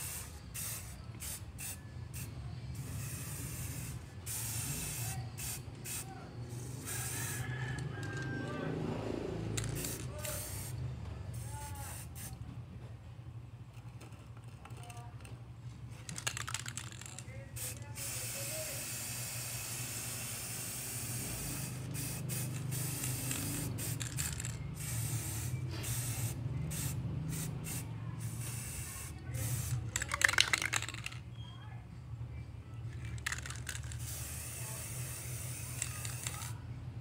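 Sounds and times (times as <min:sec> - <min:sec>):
can being shaken rattling: 0:00.0 - 0:08.3, 0:09.6 - 0:10.8, 0:13.8 - 0:15.3, 0:15.9 - 0:31.2, 0:32.9 - 0:36.6
spray paint can hissing: 0:00.0 - 0:08.3, 0:09.6 - 0:12.4, 0:16.1 - 0:31.2, 0:33.0 - 0:36.6.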